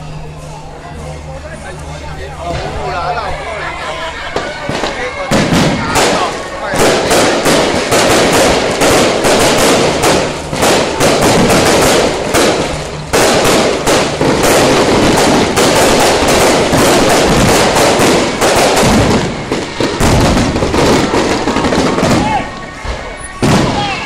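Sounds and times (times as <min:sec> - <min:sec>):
firecrackers crackling: 0:00.0 - 0:24.0.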